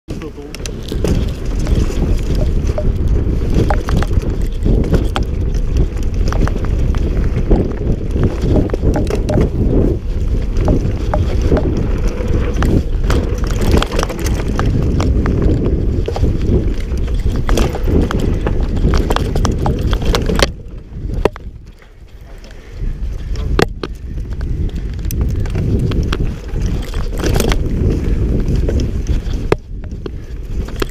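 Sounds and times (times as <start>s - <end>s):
wind rumble on microphone: 0.1s - 30.9s
bike clattering over bumps: 0.5s - 30.9s.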